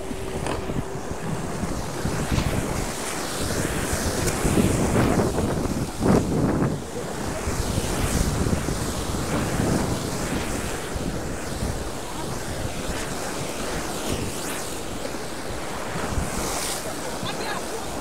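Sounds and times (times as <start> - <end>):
waves breaking over a jetty: 0.0 - 18.0
wind buffeting the microphone: 0.0 - 18.0.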